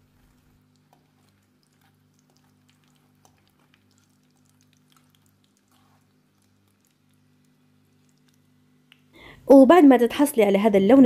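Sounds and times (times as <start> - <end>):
food frying in hot oil: 0.0 - 8.9
faint steady hum: 0.0 - 11.0.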